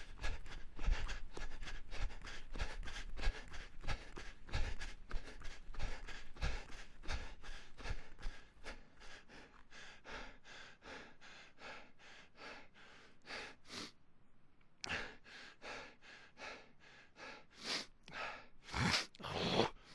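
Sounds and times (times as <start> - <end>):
person breathing hard: 0.0 - 14.0, 14.8 - 19.9.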